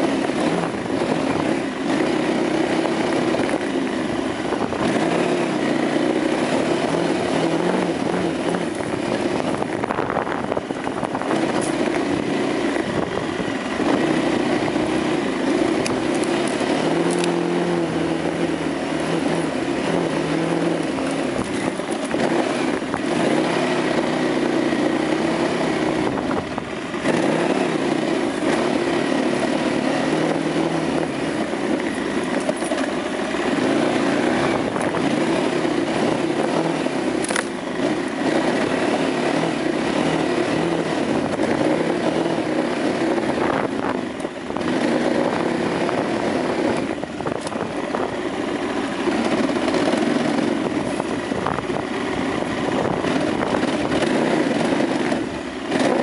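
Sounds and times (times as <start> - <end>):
motorcycle engine running: 0.0 - 56.0
wind and trail noise: 0.0 - 56.0.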